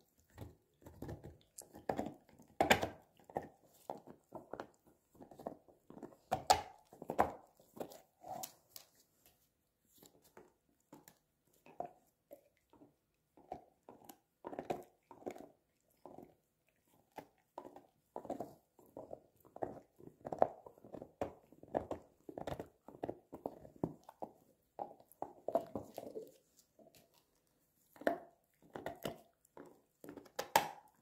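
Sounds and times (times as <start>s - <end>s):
dog chewing a bone: 0.1s - 31.0s.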